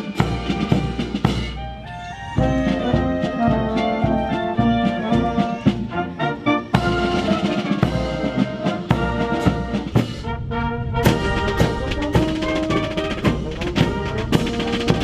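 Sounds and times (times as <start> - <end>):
drums beating: 0.0 - 15.0
trumpets and trombones playing: 0.0 - 15.0.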